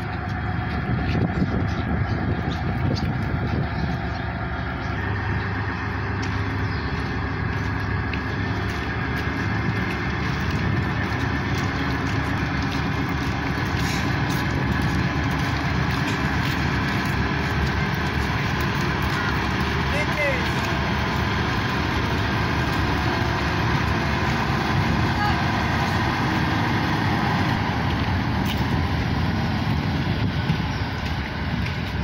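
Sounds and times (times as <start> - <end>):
ship engines droning: 0.0 - 32.0.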